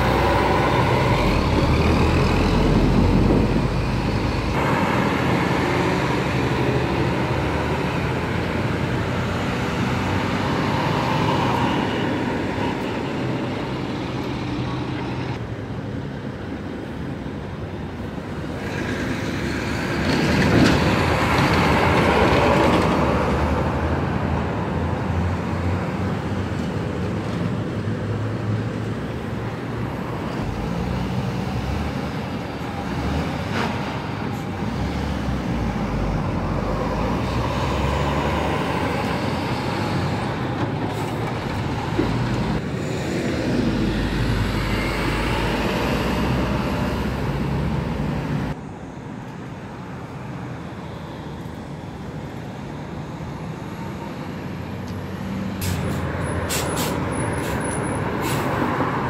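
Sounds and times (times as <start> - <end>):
heavy trucks driving by: 0.0 - 59.0
traffic hum: 0.0 - 59.0.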